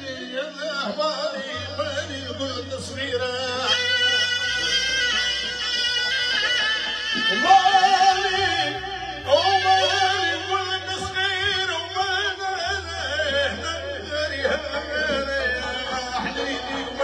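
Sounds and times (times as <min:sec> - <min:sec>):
man singing ornamented vocals: 0:00.0 - 0:17.0
steady low bass drone: 0:01.6 - 0:17.0.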